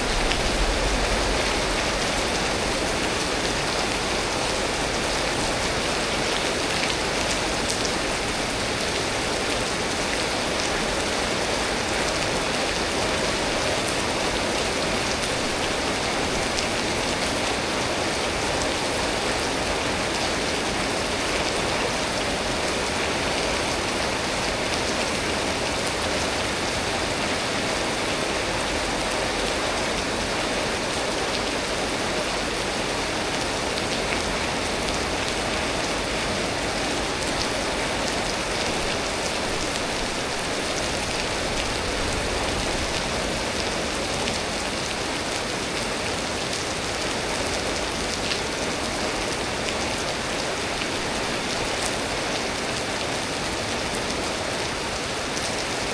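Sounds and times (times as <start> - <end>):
rain drops ticking: 0.0 - 55.9
steady rain hiss: 0.0 - 55.9.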